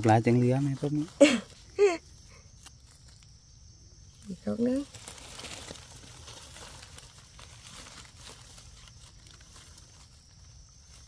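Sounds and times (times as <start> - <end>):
dry leaves rustling: 0.0 - 11.0.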